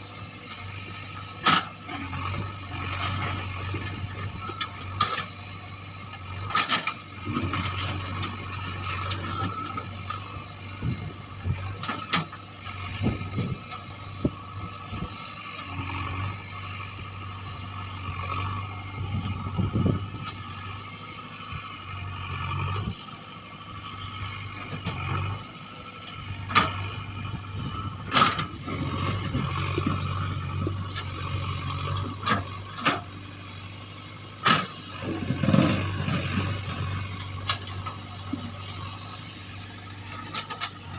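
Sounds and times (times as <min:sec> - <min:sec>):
diesel engine under load: 0:00.0 - 0:40.9.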